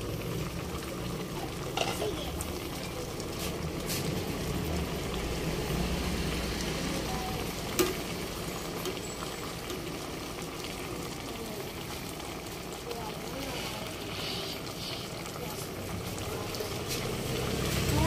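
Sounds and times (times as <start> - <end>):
sauce bubbling and sizzling: 0.0 - 18.0.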